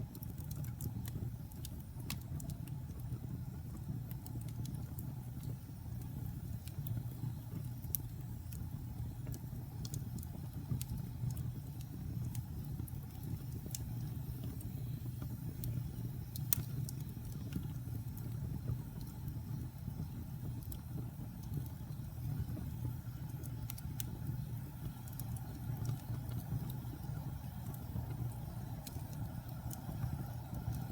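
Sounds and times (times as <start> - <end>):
logs crackling and popping: 0.0 - 30.9
rumble of flames: 0.0 - 30.9.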